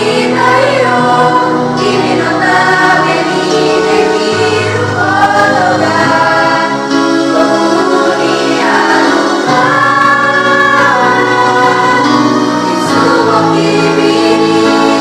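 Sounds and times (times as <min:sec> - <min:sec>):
vocal group singing in unison: 0:00.0 - 0:15.0.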